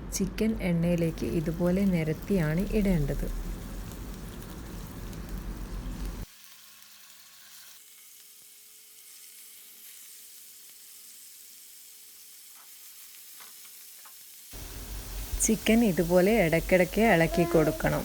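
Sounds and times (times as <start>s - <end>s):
chicken sizzling in hot oil: 1.0s - 18.0s.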